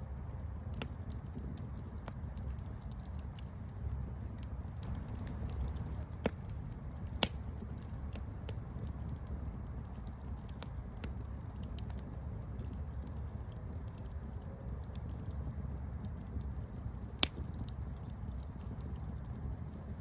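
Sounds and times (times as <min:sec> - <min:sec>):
campfire burning and crackling: 0:00.0 - 0:20.0.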